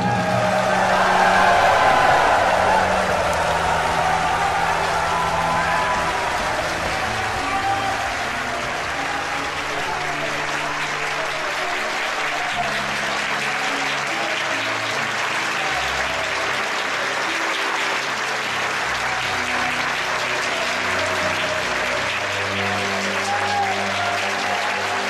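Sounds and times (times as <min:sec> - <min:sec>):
audience applause: 0:00.0 - 0:25.0
slow music with held notes: 0:00.0 - 0:25.0.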